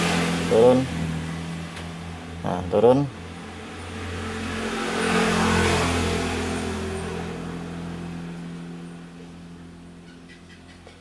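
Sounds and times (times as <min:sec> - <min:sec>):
motor vehicle passing by: 0:00.0 - 0:11.0.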